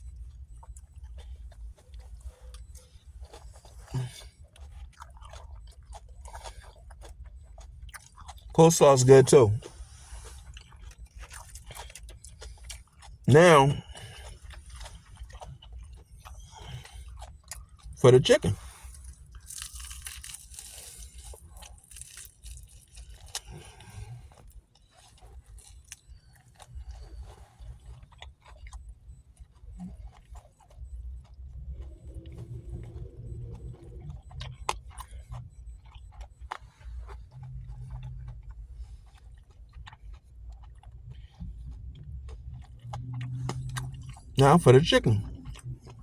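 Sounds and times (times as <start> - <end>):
person chewing crunchy food: 0.0 - 46.0.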